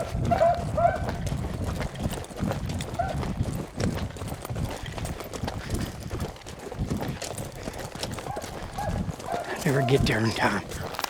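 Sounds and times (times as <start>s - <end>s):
footsteps with brushing crunch: 0.0s - 11.0s.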